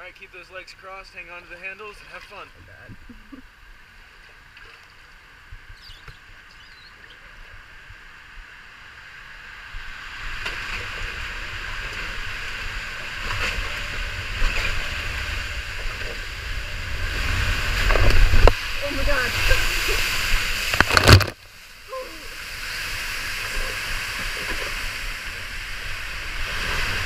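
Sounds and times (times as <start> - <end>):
rushing water: 0.0 - 27.0.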